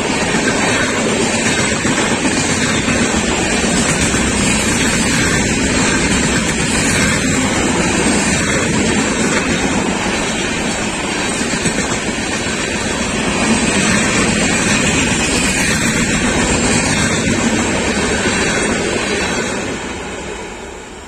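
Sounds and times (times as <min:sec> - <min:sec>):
train coaches rolling past: 0:00.0 - 0:21.0.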